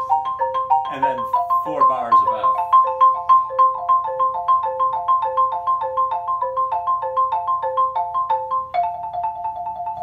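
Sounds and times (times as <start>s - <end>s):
xylophone rapid notes: 0.0s - 10.0s.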